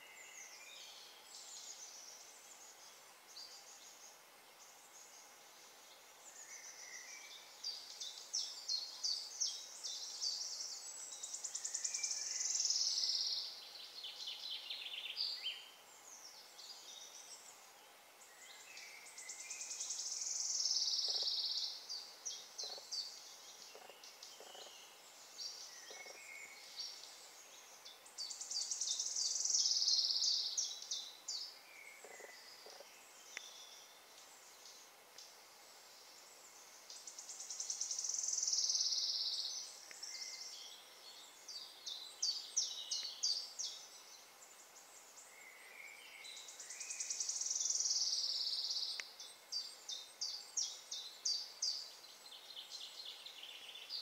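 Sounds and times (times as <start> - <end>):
woodland birds singing: 0.0 - 54.0.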